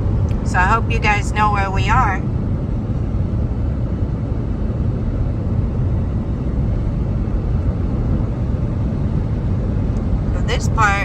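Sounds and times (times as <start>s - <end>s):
car driving on highway: 0.0s - 11.0s.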